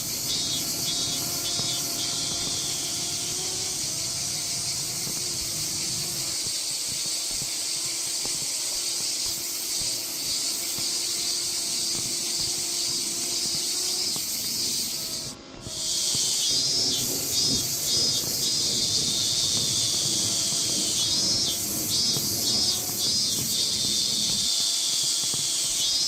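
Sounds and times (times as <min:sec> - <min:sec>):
drone propellers whirring: 0:00.0 - 0:26.0.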